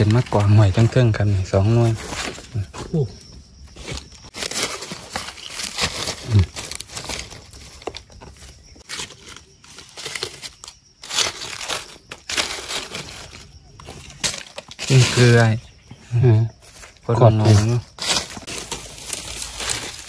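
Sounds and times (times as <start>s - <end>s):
crinkling and rustling: 0.0s - 15.7s, 16.6s - 20.0s.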